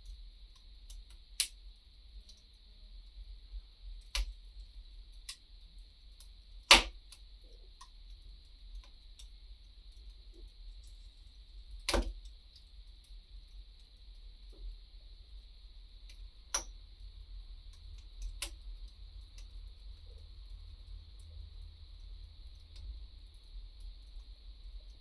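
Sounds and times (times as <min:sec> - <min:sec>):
steady hiss and low rumble: 0:00.0 - 0:25.0
wood fire crackling: 0:04.0 - 0:25.0.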